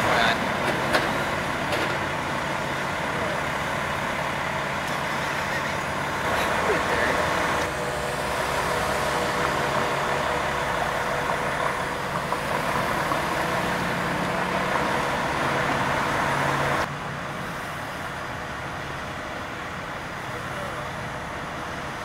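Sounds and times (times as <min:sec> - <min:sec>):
cars driving past: 0:00.0 - 0:22.0
fire engines idling: 0:00.0 - 0:22.0.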